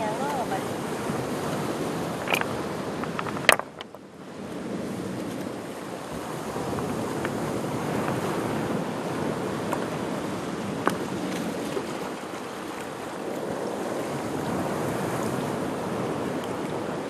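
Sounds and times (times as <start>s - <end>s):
waves washing over rocky shore: 0.0s - 17.0s.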